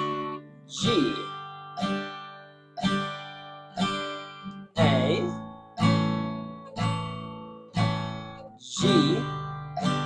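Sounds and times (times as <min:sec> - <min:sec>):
acoustic guitar strums: 0:00.0 - 0:10.0.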